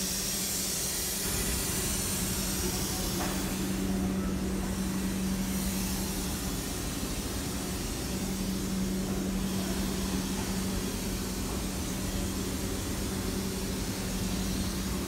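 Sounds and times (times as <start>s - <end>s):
hiss: 0.0s - 15.0s.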